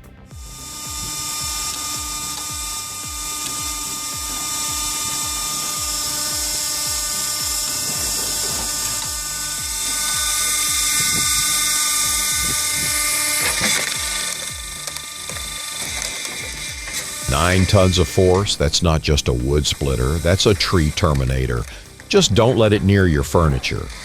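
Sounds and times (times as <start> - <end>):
background music with low beat: 0.0 - 24.0
wood splitter machine whining: 0.0 - 24.0.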